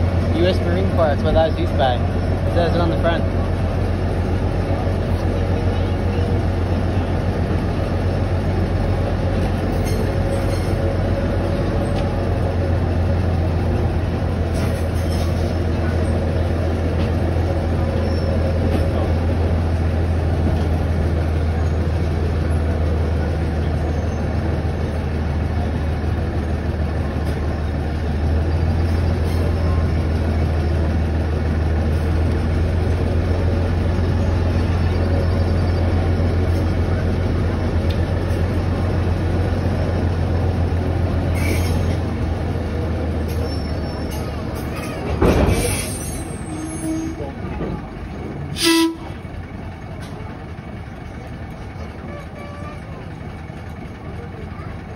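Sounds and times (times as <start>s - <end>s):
train rumbling: 0.0s - 54.9s.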